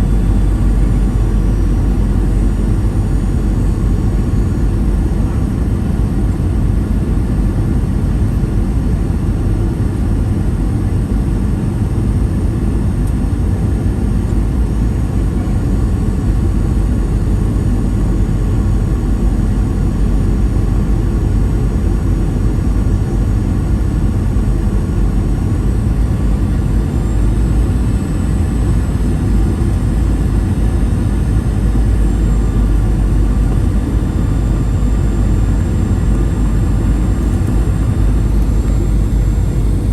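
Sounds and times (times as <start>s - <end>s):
high engine whine: 0.0s - 39.9s
jet engine roar in cabin: 0.0s - 39.9s.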